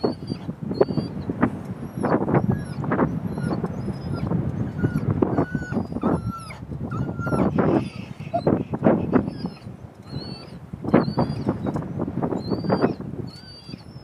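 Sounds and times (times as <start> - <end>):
dog whining: 0.0 - 14.0
wind rumble on microphone: 0.0 - 14.0.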